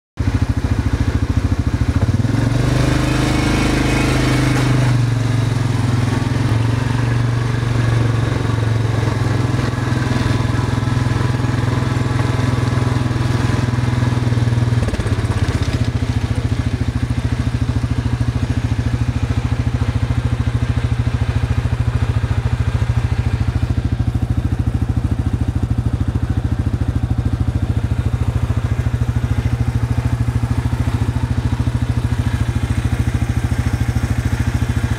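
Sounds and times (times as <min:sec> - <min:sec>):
engine droning: 0:00.2 - 0:34.9.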